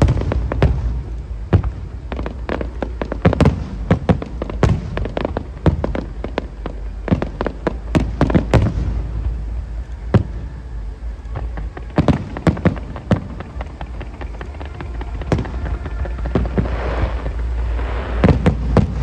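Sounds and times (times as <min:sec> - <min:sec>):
fireworks bangs: 0:00.0 - 0:19.0
steady low rumble: 0:00.0 - 0:19.0.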